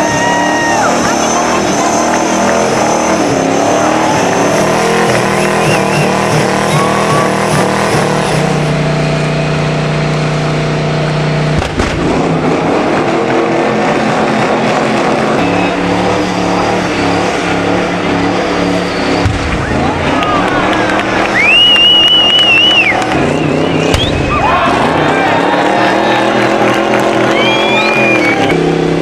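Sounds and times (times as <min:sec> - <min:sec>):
car engine at high revs: 0:00.0 - 0:29.0.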